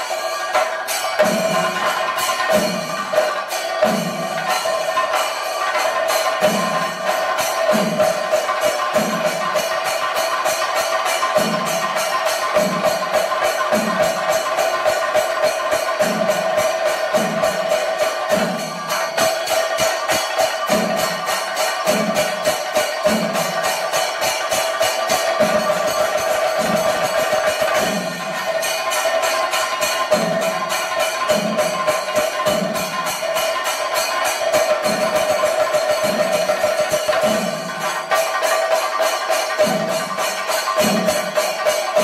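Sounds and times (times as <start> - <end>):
drums played with sticks: 0.0 - 42.0
jingling cymbals: 0.0 - 42.0.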